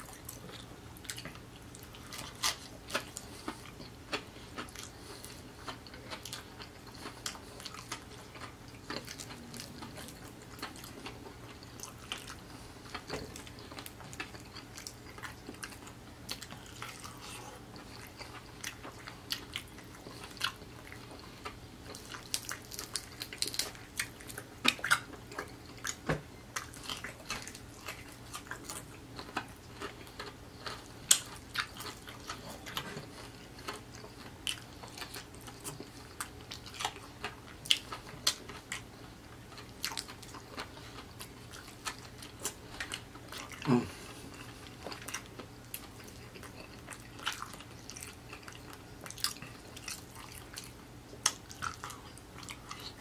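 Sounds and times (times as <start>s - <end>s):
man chewing with wet mouth clicks: 0.0s - 53.0s.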